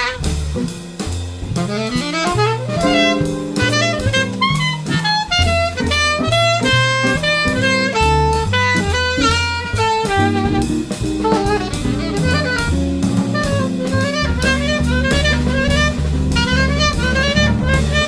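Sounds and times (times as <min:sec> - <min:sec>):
drum kit cymbals: 0:00.0 - 0:18.0
saxophone solo: 0:00.0 - 0:18.0
walking upright bass: 0:00.0 - 0:18.0
electric guitar: 0:02.7 - 0:08.3, 0:08.9 - 0:18.0.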